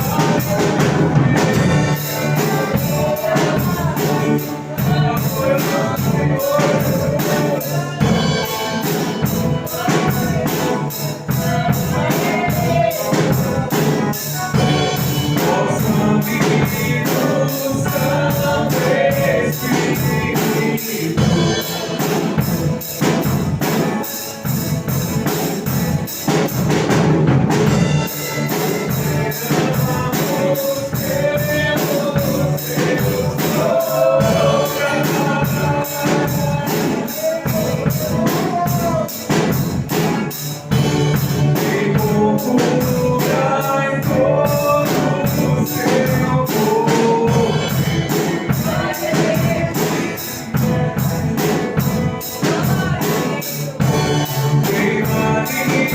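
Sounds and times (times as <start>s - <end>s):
band accompaniment: 0.0s - 55.9s
high percussion beat: 0.0s - 55.9s
people singing gospel: 0.0s - 55.9s.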